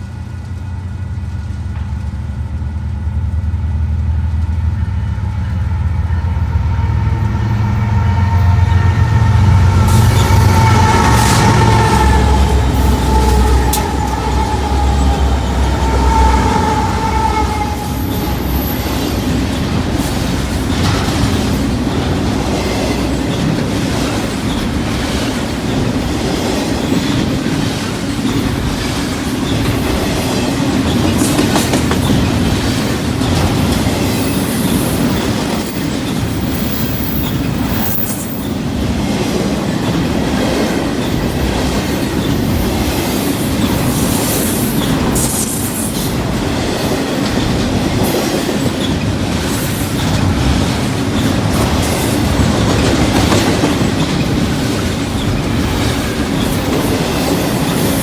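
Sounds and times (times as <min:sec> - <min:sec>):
freight train rolling past: 0:00.0 - 0:58.0
wheels clickety-clack over joints: 0:09.7 - 0:58.0.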